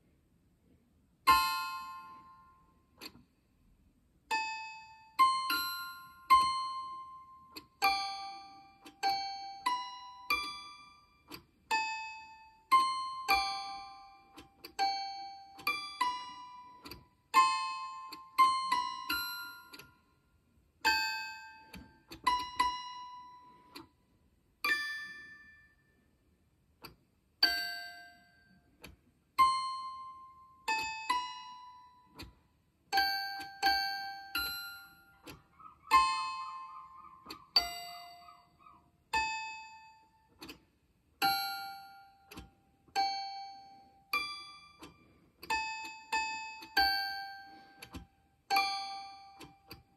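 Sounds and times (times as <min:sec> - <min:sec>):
toy piano single notes: 0:01.3 - 0:03.2, 0:04.3 - 0:20.0, 0:20.8 - 0:23.9, 0:24.6 - 0:25.8, 0:26.8 - 0:49.9.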